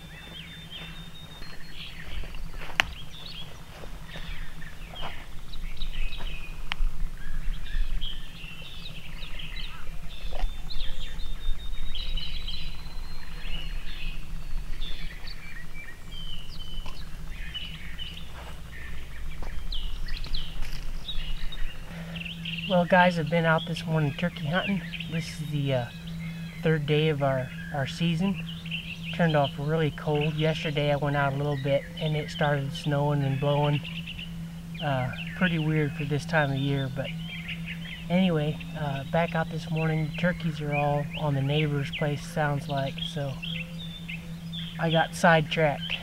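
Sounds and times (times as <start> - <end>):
songbirds chirping and singing: 0.0 - 46.0.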